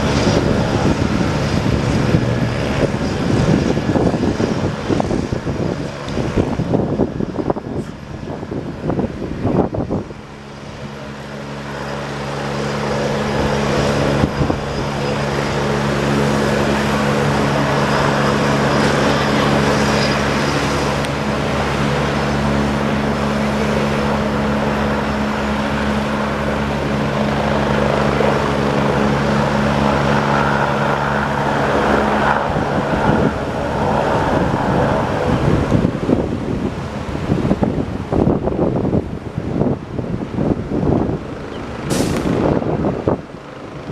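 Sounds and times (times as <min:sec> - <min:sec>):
helicopter engine hum: 0:00.0 - 0:43.9
helicopter rotor noise: 0:00.0 - 0:43.9
wind gusting on microphone: 0:00.0 - 0:43.9.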